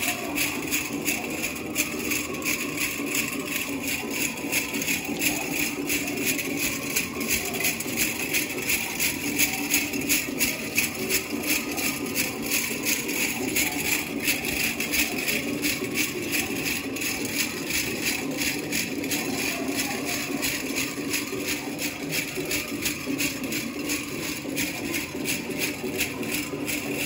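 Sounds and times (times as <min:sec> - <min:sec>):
metal jingle cones shaking: 0:00.0 - 0:27.0.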